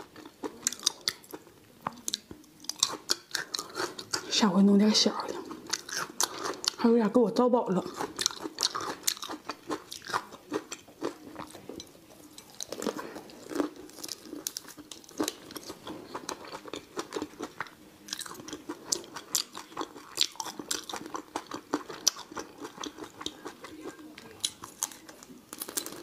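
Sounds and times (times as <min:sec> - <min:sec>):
person chewing with crunches: 0:00.0 - 0:04.3, 0:05.2 - 0:06.8, 0:07.8 - 0:26.0.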